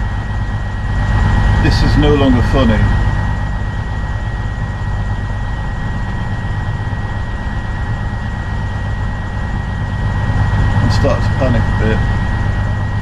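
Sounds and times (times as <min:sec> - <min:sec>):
high whine: 0:00.0 - 0:13.0
train engine idling hum: 0:00.0 - 0:13.0.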